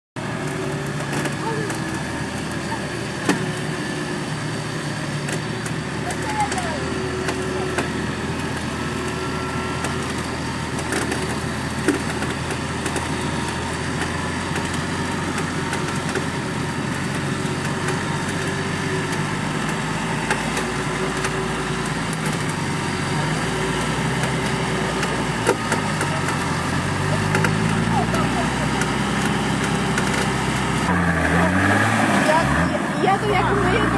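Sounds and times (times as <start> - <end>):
engine running at low revs: 0.2 - 33.9.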